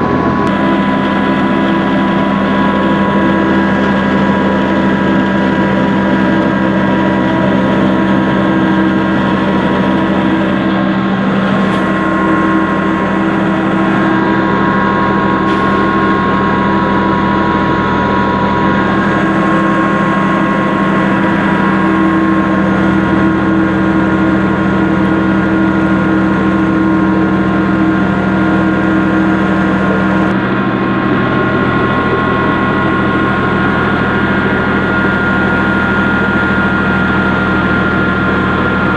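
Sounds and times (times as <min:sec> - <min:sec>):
grinder machine droning: 0:00.0 - 0:38.9.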